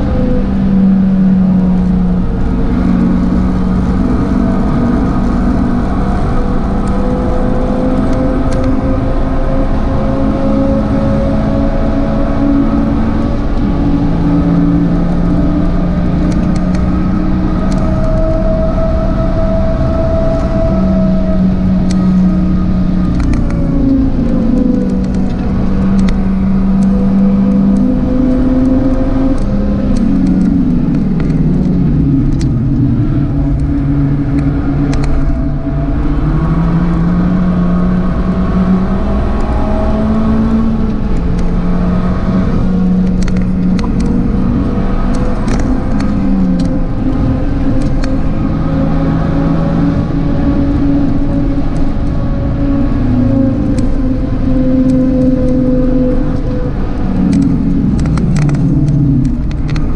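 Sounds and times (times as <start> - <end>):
car engine driven hard: 0.0 - 59.9.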